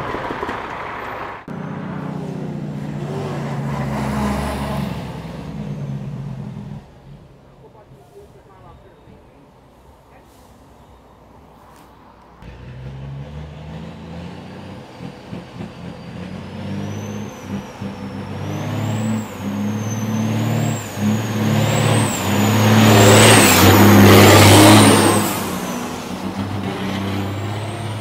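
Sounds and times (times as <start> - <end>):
diesel truck engine passing: 0.0 - 28.0.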